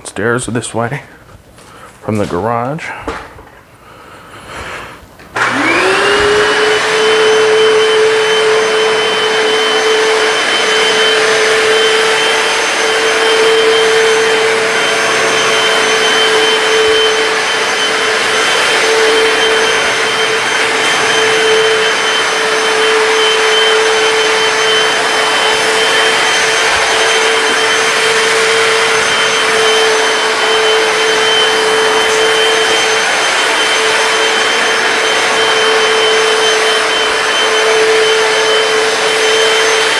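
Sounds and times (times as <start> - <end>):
floor cleaner motor humming: 3.2 - 39.9
rushing suction noise: 4.4 - 39.9
high motor whine: 5.4 - 39.9.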